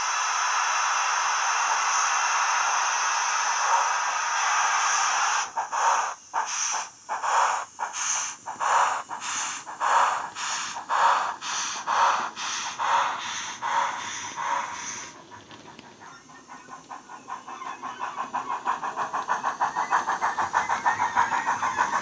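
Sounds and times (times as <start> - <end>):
locomotive exhaust chuffs: 0.0 - 22.0
model locomotive steam hiss: 0.0 - 22.0.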